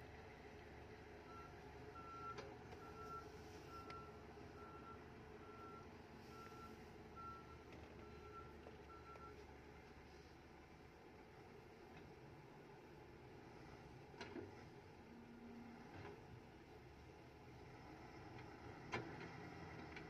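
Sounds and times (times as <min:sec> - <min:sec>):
faint engine hum: 0:00.0 - 0:20.0.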